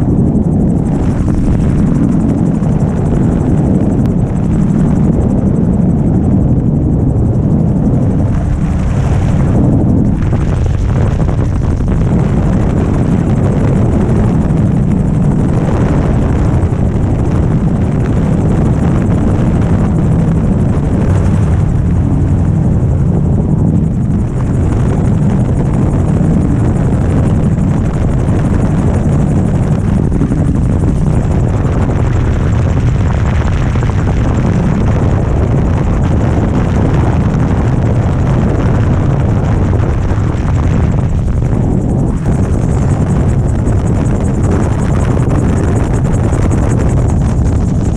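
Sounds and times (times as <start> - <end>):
gyroplane engine and rotor: 0.0 - 47.9
wind rush: 0.0 - 47.9.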